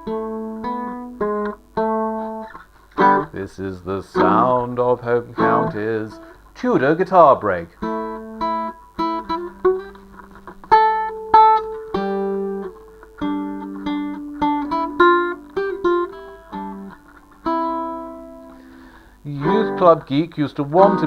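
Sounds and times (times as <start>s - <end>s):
solo guitar plucked notes and chords: 0.0s - 6.8s, 7.4s - 21.0s.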